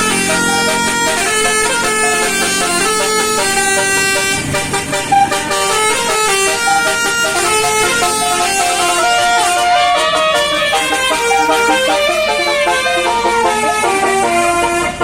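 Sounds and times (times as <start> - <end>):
musical bus horn playing a tune: 0.0 - 15.0.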